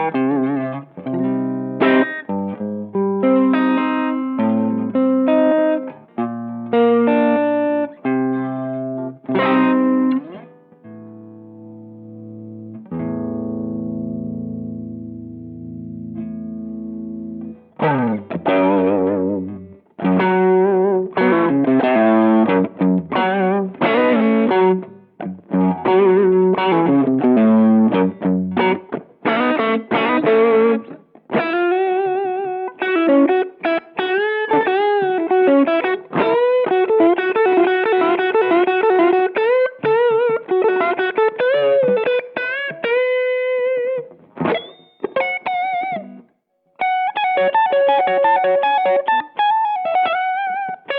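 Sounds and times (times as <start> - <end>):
overdriven electric guitar: 0.0 - 50.9.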